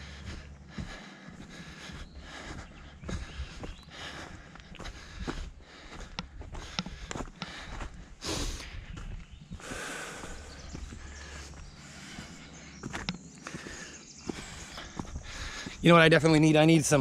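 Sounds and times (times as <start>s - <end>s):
footsteps on trail: 0.0s - 17.0s.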